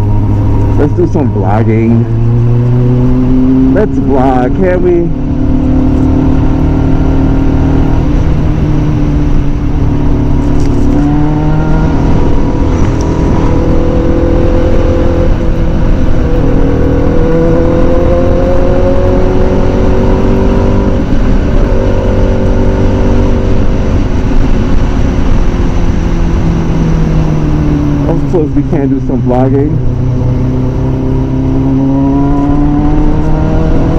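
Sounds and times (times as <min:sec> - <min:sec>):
motorcycle engine accelerating: 0:00.0 - 0:33.9
wind noise: 0:00.0 - 0:33.9.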